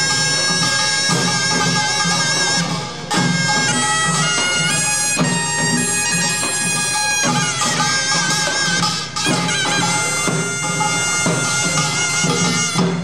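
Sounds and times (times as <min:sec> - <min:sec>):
drums beating steady rhythm: 0:00.0 - 0:13.0
piercing shawm melody: 0:00.0 - 0:13.0.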